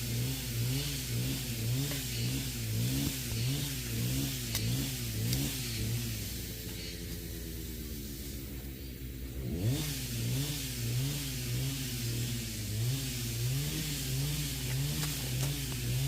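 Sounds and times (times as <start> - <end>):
motor revving: 0.0 - 16.0.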